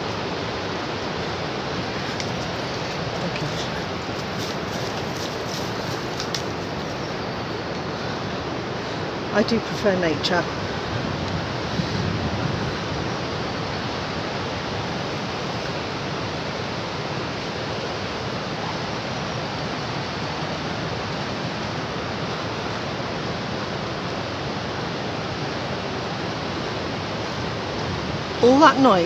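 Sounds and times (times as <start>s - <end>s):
water rushing over weir: 0.0s - 29.0s.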